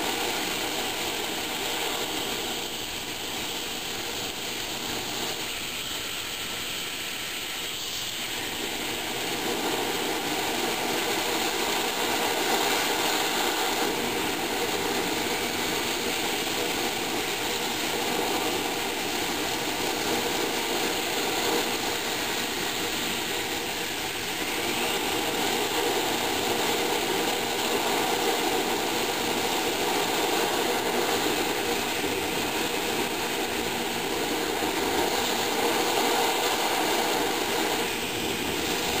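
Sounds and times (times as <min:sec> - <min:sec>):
oil burner flame rushing: 0:00.0 - 0:39.0.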